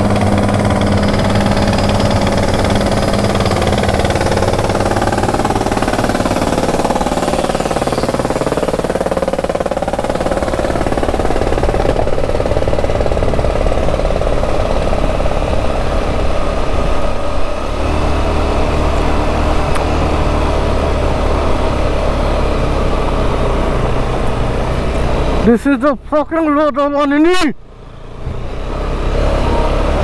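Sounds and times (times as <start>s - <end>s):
motorcycle engine running: 0.0s - 26.2s
steady noise: 0.0s - 26.7s.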